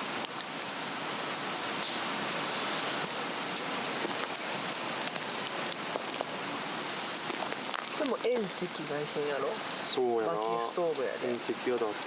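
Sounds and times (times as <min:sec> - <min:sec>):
fire crackling and popping: 0:00.0 - 0:12.0
flames rushing hiss: 0:00.0 - 0:12.0.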